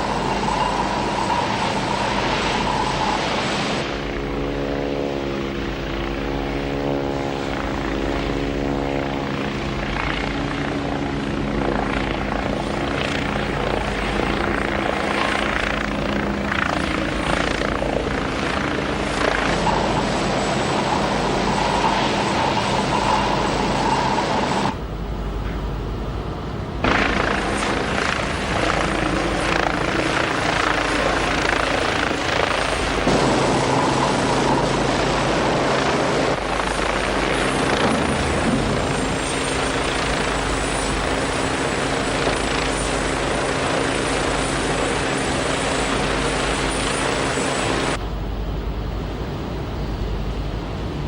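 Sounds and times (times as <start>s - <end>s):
helicopter rotor noise: 0.0s - 51.0s
high turbine whine: 0.0s - 51.0s
low hum: 9.9s - 51.0s.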